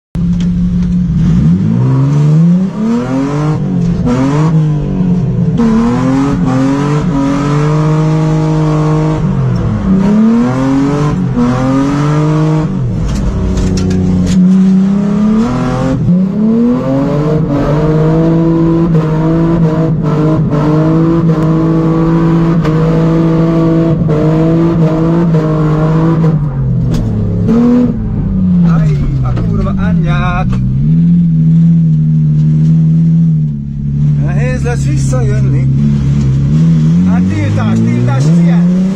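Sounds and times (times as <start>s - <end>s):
car engine revving: 0.2s - 38.9s.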